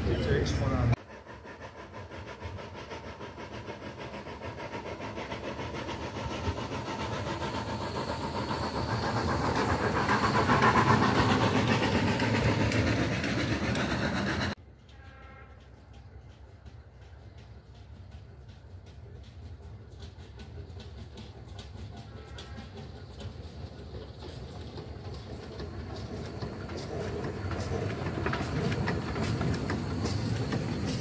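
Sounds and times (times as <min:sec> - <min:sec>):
steam locomotive chuffing past: 0:00.0 - 0:31.0.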